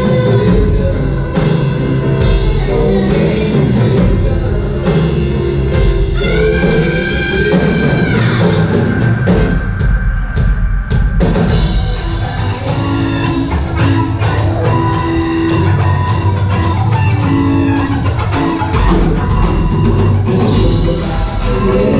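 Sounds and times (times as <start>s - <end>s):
drum kit beat: 0.0s - 21.9s
electric guitars: 0.0s - 21.9s.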